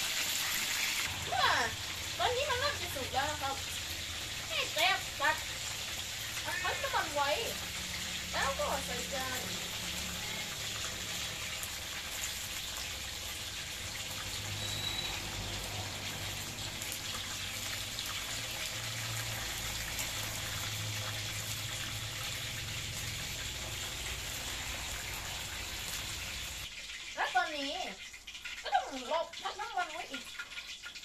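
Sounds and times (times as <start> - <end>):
chicken sizzling in hot oil: 0.0 - 31.0.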